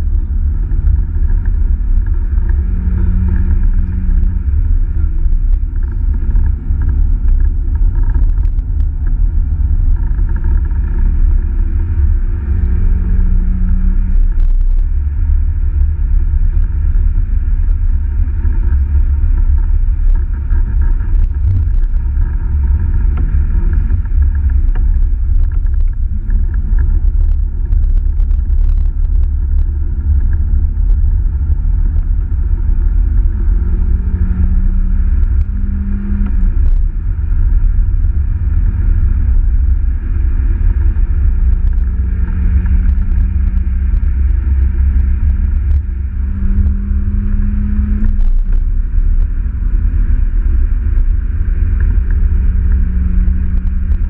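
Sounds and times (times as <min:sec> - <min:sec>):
car engine revving: 0:00.0 - 0:54.0
heavy low rumble: 0:00.0 - 0:54.0.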